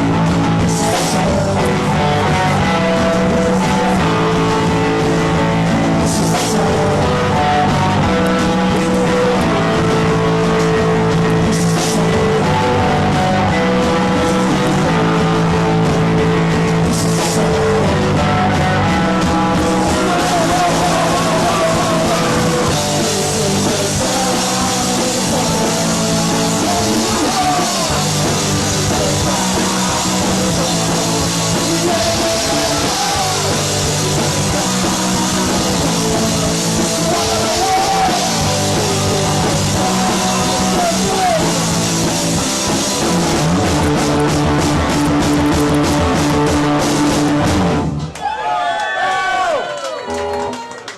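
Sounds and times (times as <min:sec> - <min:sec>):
punk rock band playing loud: 0:00.0 - 0:48.2.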